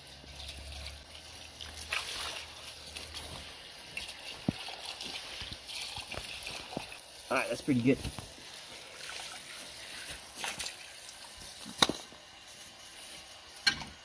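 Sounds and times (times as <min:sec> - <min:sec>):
hose spraying water on wheel: 0:00.0 - 0:14.0.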